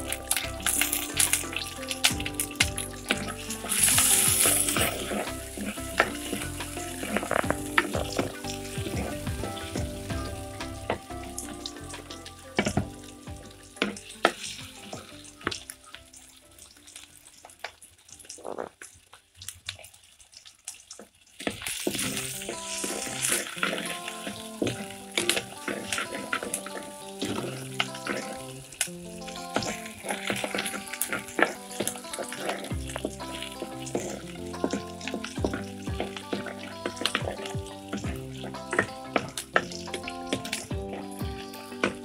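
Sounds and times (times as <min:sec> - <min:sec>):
quiet background music: 0:00.0 - 0:18.7, 0:21.6 - 0:42.0
vegetables sizzling in hot oil: 0:00.0 - 0:42.0.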